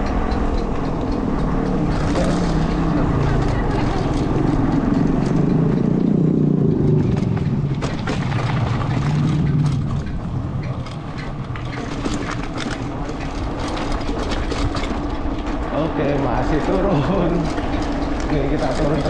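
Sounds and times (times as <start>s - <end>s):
small ticks and rattles: 0.0s - 19.0s
wind buffeting microphone: 0.0s - 19.0s.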